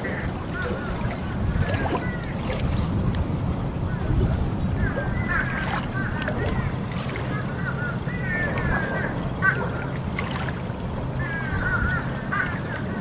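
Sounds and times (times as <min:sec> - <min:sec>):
birds calling: 0:00.0 - 0:02.8, 0:03.8 - 0:13.0
steady low hum: 0:00.0 - 0:13.0.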